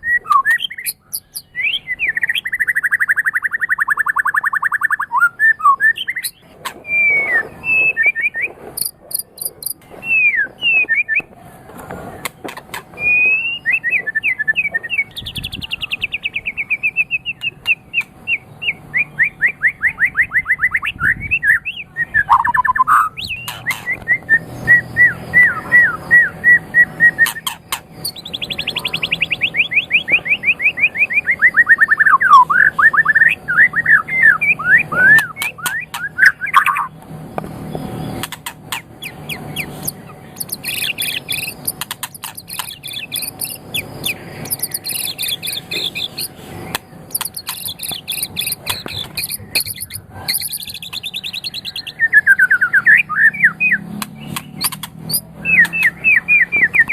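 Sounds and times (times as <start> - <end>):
songbird singing varied song: 0.0 - 11.3, 12.2 - 56.9.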